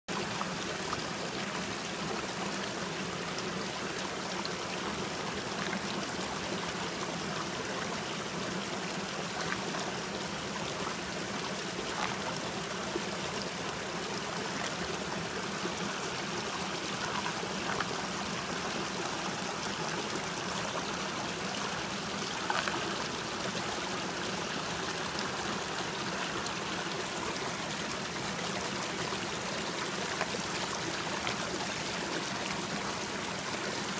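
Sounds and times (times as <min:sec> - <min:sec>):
creek water trickling over rocks: 0:00.1 - 0:33.9.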